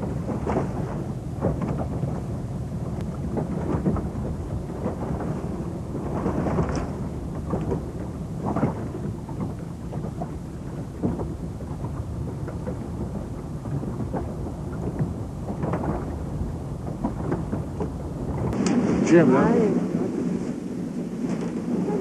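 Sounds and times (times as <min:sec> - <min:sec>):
boat engine rumble: 0:00.0 - 0:22.0
water splashes: 0:00.0 - 0:22.0
wind gusts: 0:00.0 - 0:22.0.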